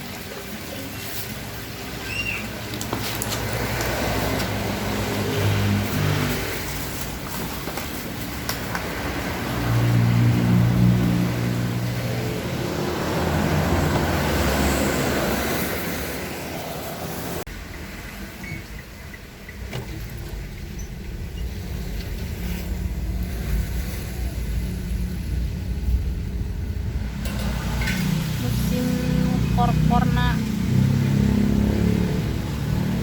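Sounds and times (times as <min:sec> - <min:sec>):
traffic noise: 0:00.0 - 0:33.0
vehicle low rumble: 0:02.2 - 0:33.0.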